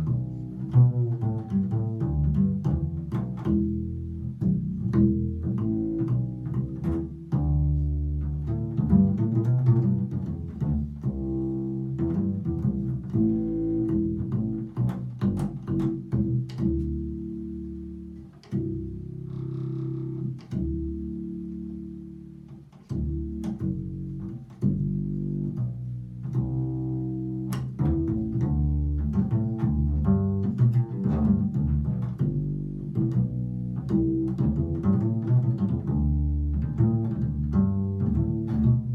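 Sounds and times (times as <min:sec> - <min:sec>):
plucked double bass: 0:00.0 - 0:38.9.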